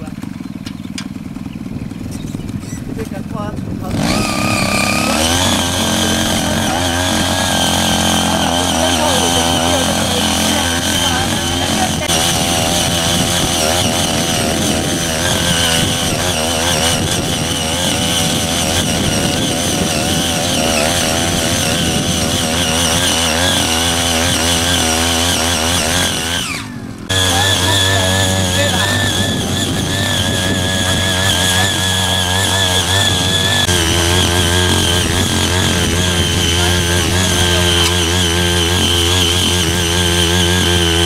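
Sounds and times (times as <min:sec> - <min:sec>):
power tiller engine running: 0:00.0 - 0:41.0
tiller blades churning weeds: 0:00.0 - 0:41.0.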